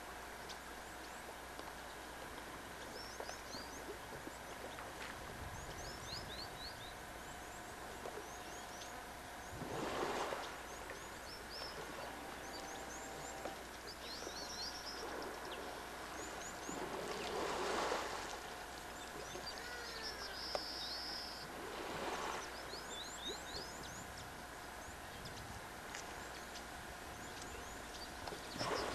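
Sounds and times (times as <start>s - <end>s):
birds chirping: 0.3s - 28.9s.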